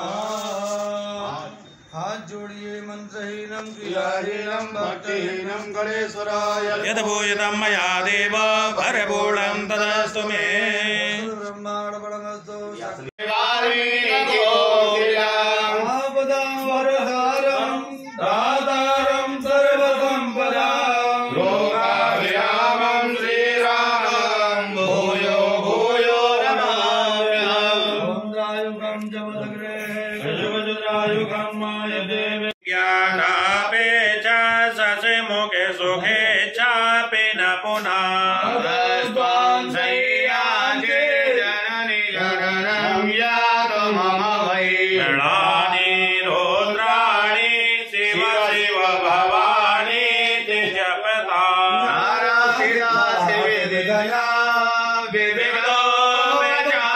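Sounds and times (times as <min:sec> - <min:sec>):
men chanting: 0:00.0 - 0:56.9.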